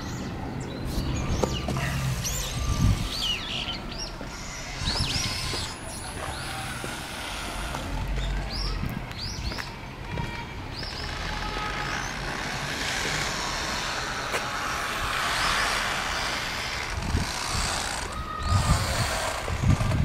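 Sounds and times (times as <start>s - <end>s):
traffic rushing past: 0.0s - 20.0s.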